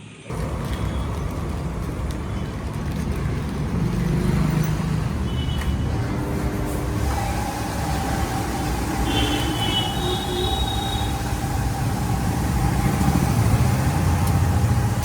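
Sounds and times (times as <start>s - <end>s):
traffic engine noise: 0.2s - 15.0s.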